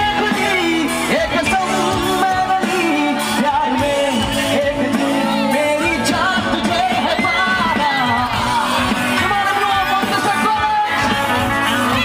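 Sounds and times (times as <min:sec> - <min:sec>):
live pop band: 0:00.0 - 0:12.0
man singing: 0:00.0 - 0:12.0.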